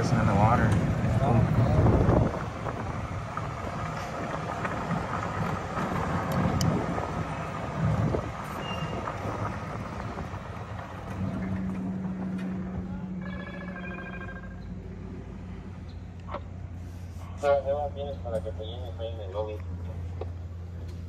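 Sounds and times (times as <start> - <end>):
golf cart rolling: 0.0 - 17.1.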